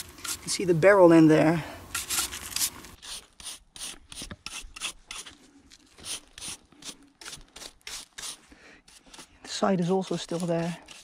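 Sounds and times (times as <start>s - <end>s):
stiff brush scrubbing metal: 1.9s - 11.0s.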